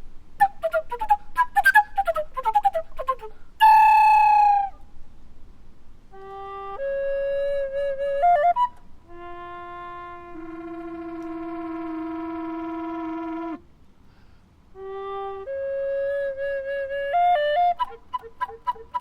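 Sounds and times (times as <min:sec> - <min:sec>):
solo recorder playing: 0:00.4 - 0:04.9, 0:06.1 - 0:13.6, 0:14.7 - 0:19.0.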